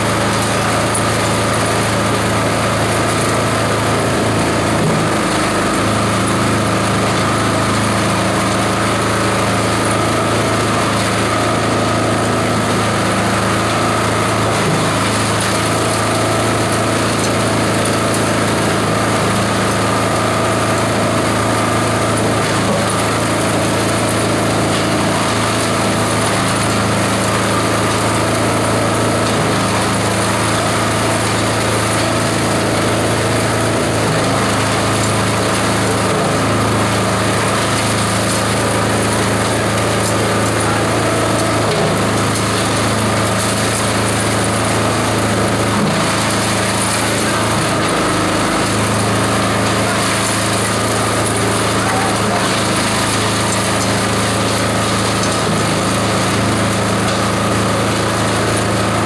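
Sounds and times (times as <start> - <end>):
shredder machine droning: 0.0 - 59.0.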